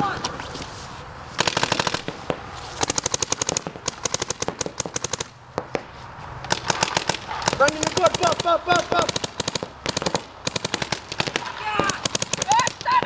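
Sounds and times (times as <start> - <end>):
paintball markers firing: 1.4 - 13.0.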